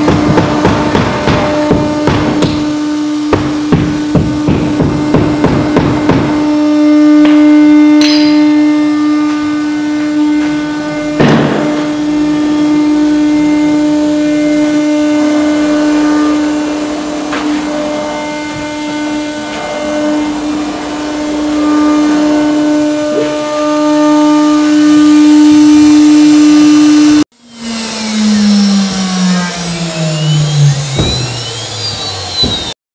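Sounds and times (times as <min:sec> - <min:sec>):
higher motor tones: 0:00.0 - 0:32.8
lower whine falling in pitch: 0:00.0 - 0:32.8
spindle motor whine: 0:00.0 - 0:32.8.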